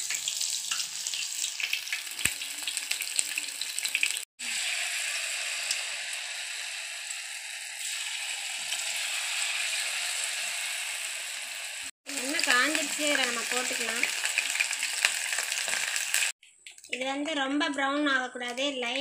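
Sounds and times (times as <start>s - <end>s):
batter deep-frying in hot oil: 0.0s - 17.7s.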